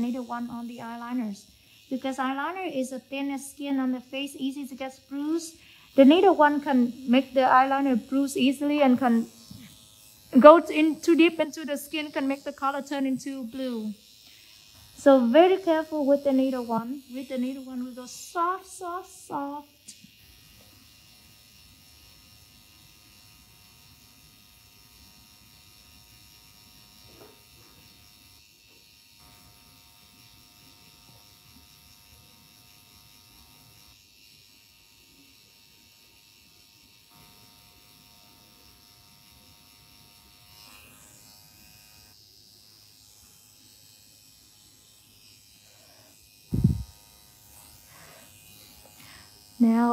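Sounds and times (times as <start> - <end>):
tattoo machine buzzing: 0.0 - 49.9.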